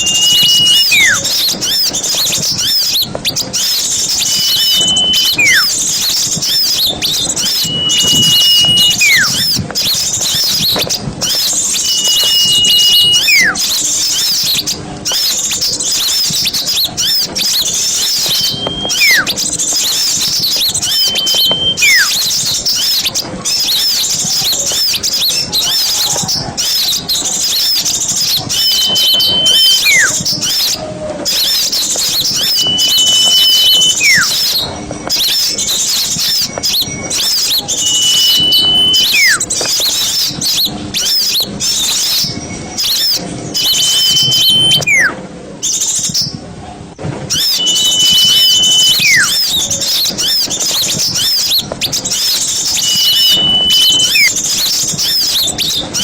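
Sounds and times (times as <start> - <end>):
whistled bird call: 0.0 - 46.3, 47.3 - 56.0
songbirds twittering: 0.0 - 46.4, 47.3 - 56.0.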